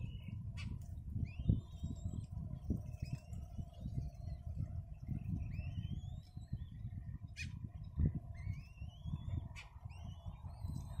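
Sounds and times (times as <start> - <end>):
constant low rumble: 0.0 - 11.0.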